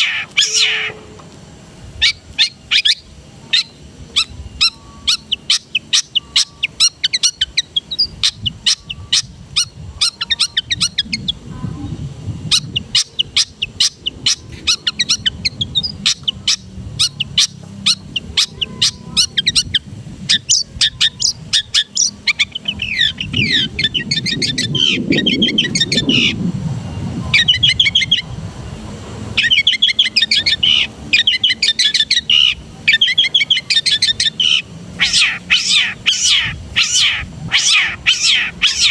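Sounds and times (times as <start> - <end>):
shrike singing: 0.0 - 38.9.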